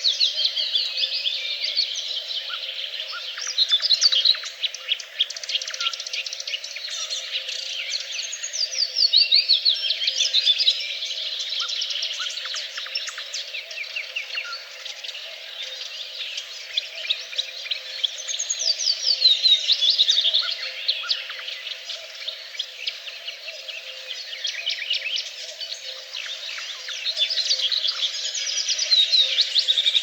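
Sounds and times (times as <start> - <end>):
songbirds singing and chirping: 0.0 - 30.0.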